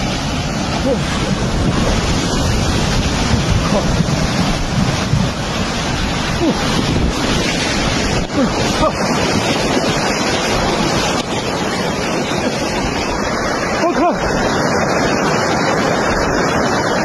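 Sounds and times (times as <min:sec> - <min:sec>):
muddy water rushing through trees: 0:00.0 - 0:17.0
wind buffeting microphone: 0:00.0 - 0:17.0.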